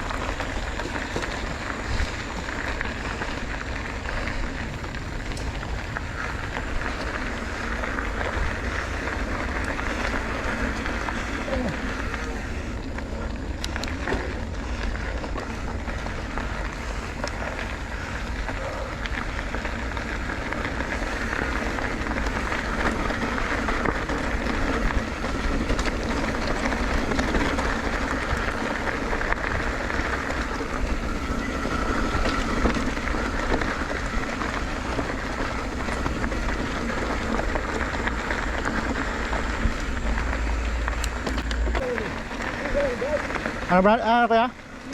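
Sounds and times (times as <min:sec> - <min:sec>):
wind and road noise: 0:00.0 - 0:44.9
wind buffeting microphone: 0:00.0 - 0:44.9.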